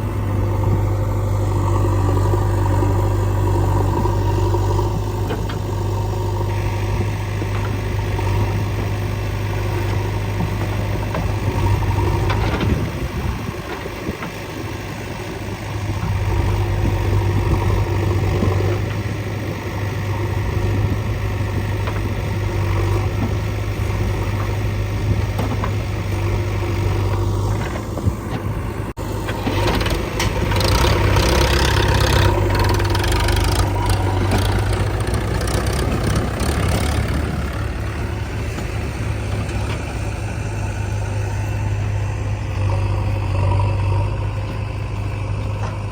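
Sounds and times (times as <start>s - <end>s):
diesel engines humming: 0.0s - 45.9s.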